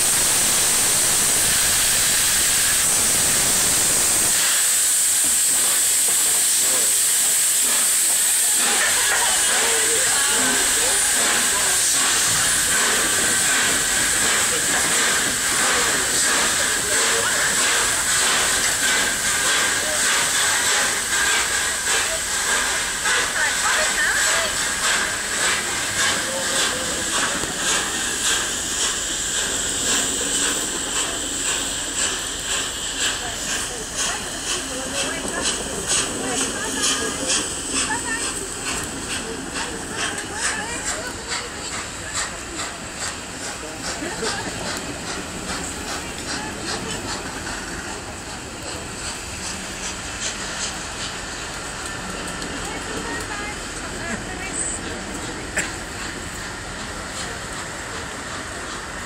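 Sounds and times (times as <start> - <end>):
steam hissing loudly: 0.0 - 59.0
train wheels clicking over rail joints: 0.0 - 59.0.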